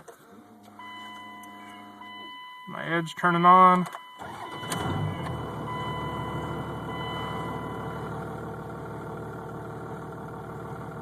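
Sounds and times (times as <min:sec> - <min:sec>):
diesel engine idling: 0:00.2 - 0:11.0.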